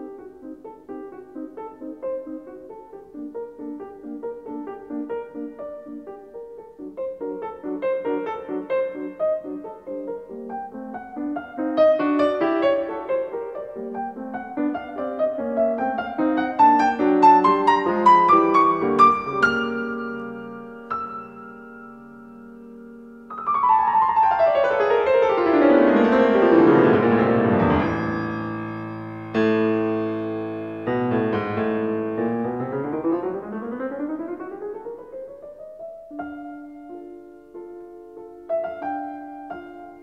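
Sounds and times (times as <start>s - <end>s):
solo piano music: 0.0s - 40.0s.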